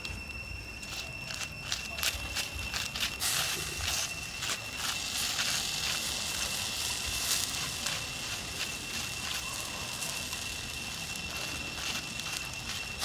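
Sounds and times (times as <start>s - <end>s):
thin high steady tone: 0.0s - 13.0s
wood fire crackling: 0.0s - 13.0s.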